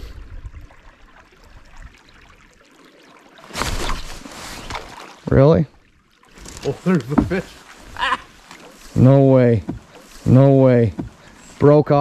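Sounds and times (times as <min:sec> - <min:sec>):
faint water and handling rumble: 0:00.0 - 0:12.0.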